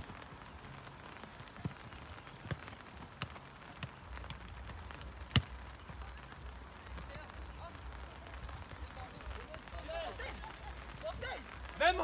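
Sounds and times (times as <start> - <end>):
faint outdoor noise: 0.0 - 12.0.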